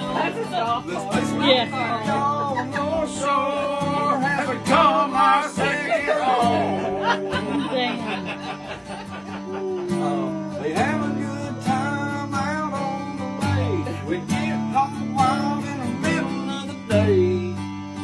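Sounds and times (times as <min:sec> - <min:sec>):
person singing: 0:00.0 - 0:08.5, 0:09.3 - 0:18.0
acoustic guitar strumming: 0:00.0 - 0:18.0.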